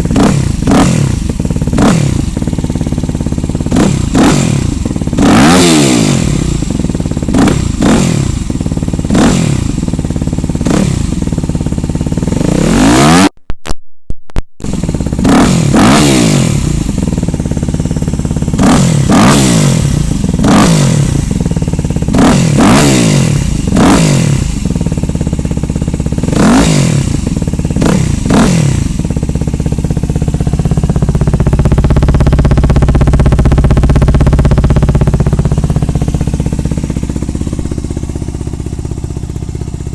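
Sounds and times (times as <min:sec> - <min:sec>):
motorcycle engine revving: 0:00.0 - 0:13.4, 0:14.6 - 0:39.9.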